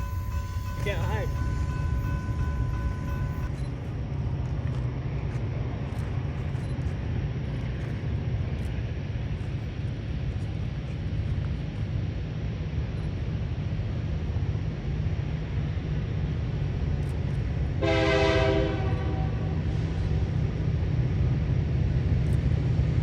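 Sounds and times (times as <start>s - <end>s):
train rumbling by: 0.0s - 23.0s.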